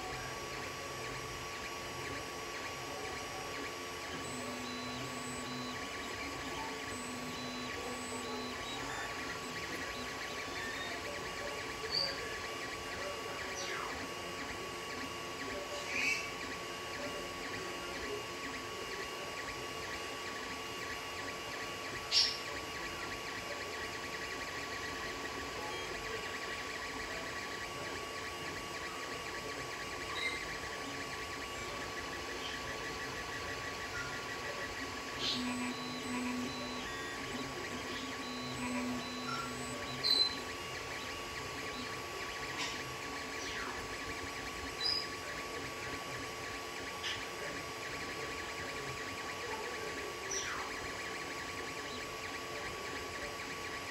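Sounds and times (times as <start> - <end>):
printer motors and fans whirring: 0.0 - 53.9.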